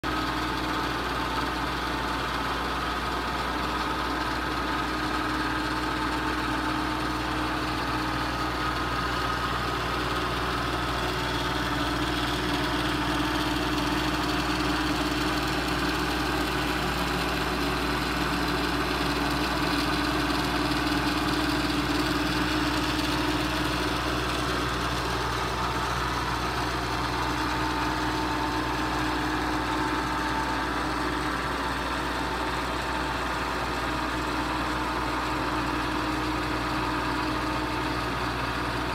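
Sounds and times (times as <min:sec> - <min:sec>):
milling machine motor hum and whine: 0:00.1 - 0:38.9.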